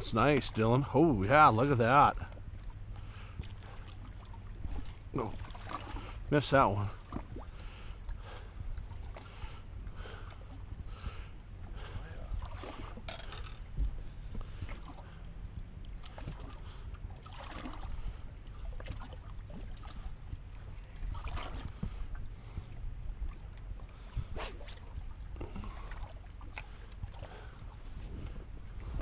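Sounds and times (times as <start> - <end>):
steady low rumble: 0.0 - 29.0
water slapping and lapping: 0.0 - 29.0.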